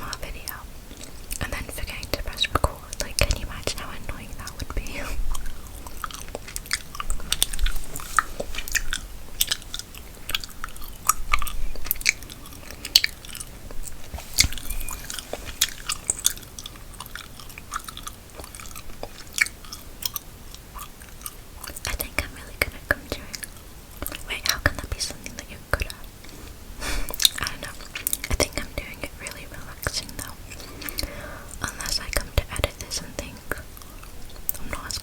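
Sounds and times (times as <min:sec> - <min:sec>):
gum chewing: 0:04.4 - 0:26.4, 0:27.0 - 0:35.0.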